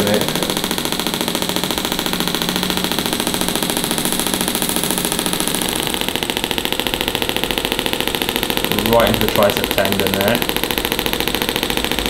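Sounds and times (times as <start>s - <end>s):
fast clicking pulses: 0.0s - 12.0s.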